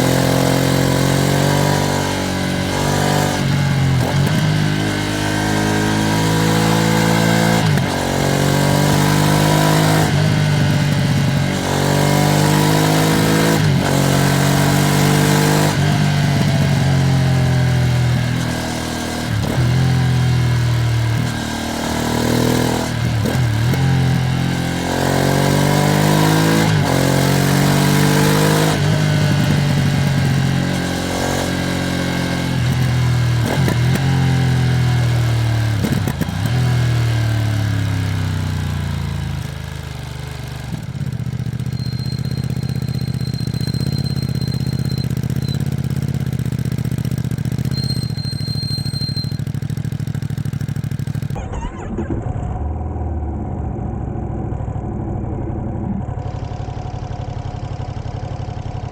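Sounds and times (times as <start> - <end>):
motorcycle accelerating through gears: 0.0 - 58.9.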